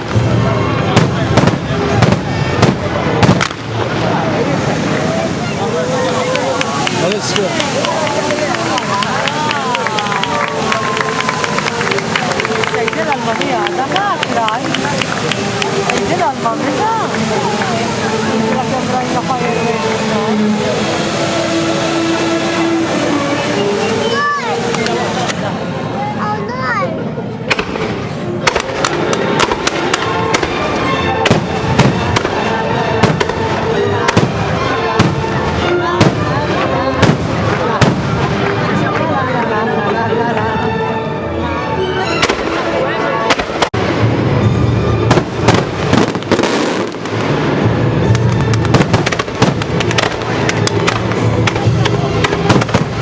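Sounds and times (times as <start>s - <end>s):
fireworks bangs and cracks: 0.0s - 25.9s, 27.4s - 39.5s, 42.2s - 53.0s
show music: 0.0s - 53.0s.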